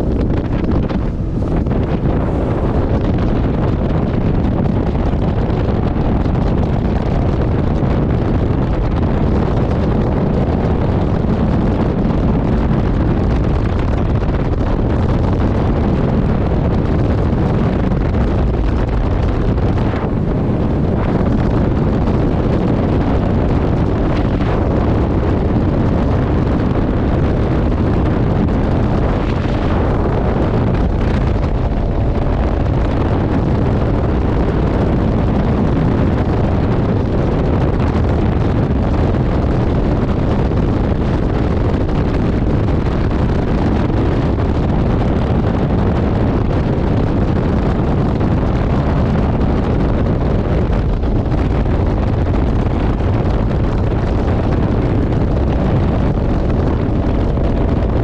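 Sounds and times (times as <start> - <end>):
heavy wind on microphone: 0.0 - 58.0
outboard engine at full throttle: 0.0 - 58.0.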